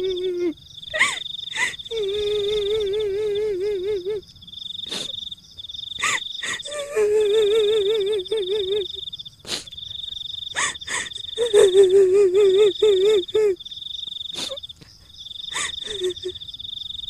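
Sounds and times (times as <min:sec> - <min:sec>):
high cricket-like trill: 0:00.0 - 0:17.0.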